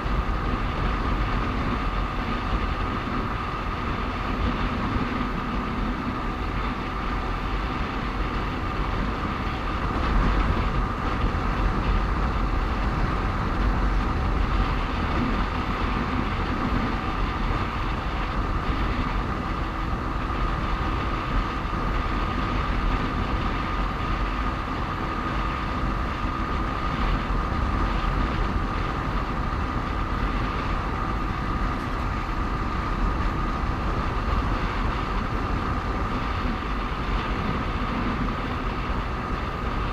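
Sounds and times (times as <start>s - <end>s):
faint steady whine: 0.0s - 39.9s
wind and road noise: 0.0s - 39.9s.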